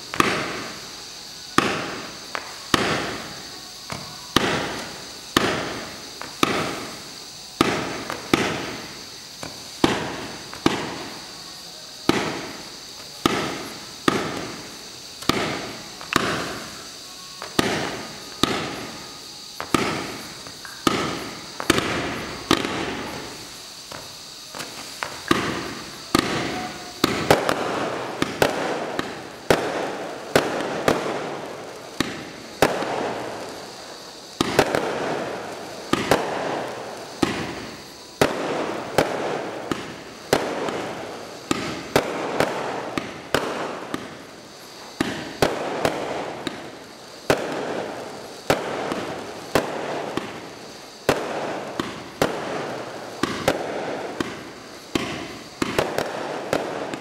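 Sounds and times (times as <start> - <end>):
firework bangs: 0.0 - 57.0.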